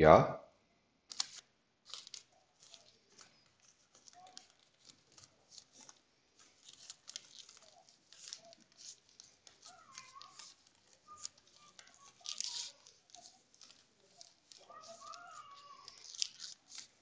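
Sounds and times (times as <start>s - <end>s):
rustling and crinkling objects: 1.0s - 17.0s.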